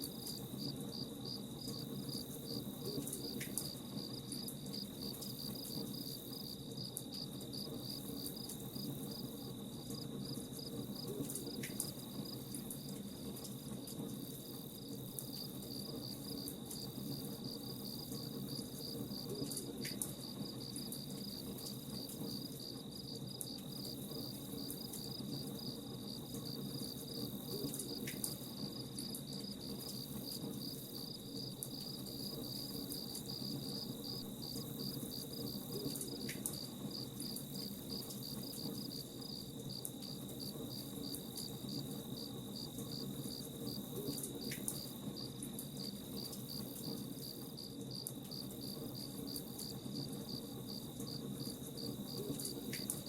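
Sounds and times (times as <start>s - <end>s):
campfire hiss: 0.0s - 53.0s
crickets chirping: 0.0s - 53.0s.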